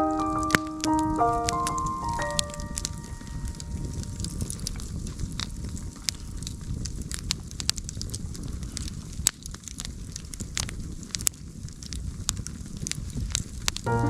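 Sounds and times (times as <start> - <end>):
fire crackles and pops: 0.0 - 14.0
campfire flames rushing: 1.7 - 13.9.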